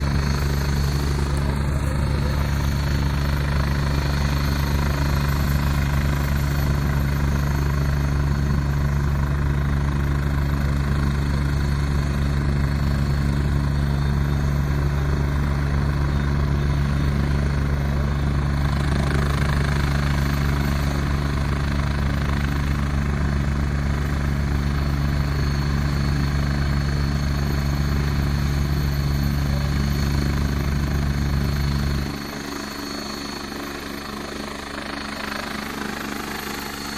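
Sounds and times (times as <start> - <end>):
helicopter rotor and engine drone: 0.0 - 36.9.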